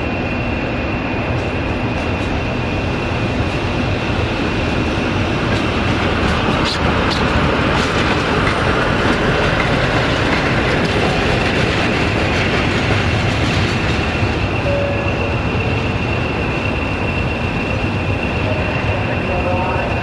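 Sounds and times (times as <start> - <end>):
diesel locomotive engine: 0.0 - 20.0.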